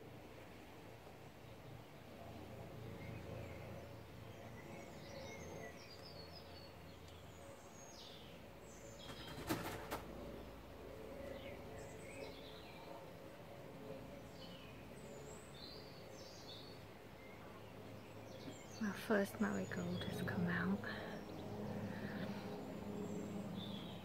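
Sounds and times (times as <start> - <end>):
small birds chirping: 1.4 - 13.0, 13.8 - 24.0.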